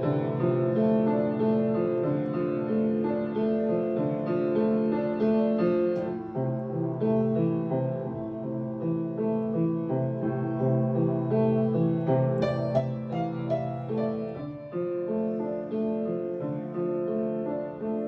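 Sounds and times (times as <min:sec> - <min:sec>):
piano piece: 0:00.0 - 0:18.0.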